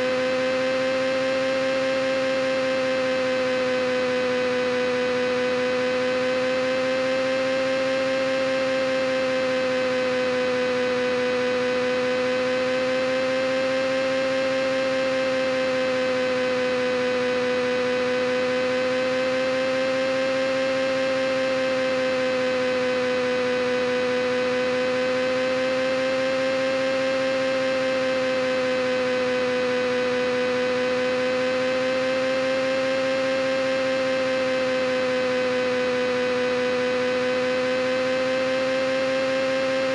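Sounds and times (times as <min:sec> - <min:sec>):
droning hum wavering in pitch: 0:00.0 - 0:39.9.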